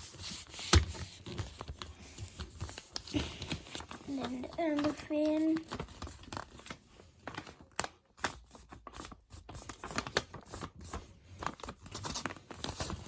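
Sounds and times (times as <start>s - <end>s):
paper being folded and creased: 0.0s - 13.0s.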